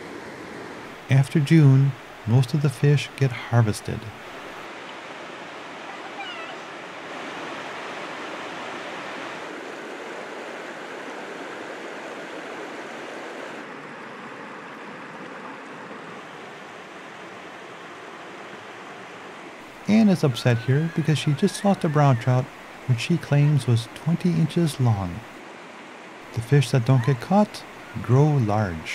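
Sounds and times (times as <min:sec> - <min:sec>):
stream rushing over rocks: 0:00.0 - 0:28.9.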